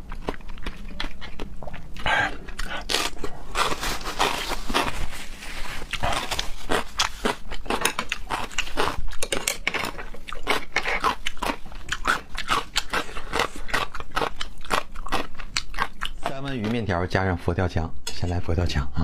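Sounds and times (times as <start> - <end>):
person crunching and chewing: 0.0 - 16.9.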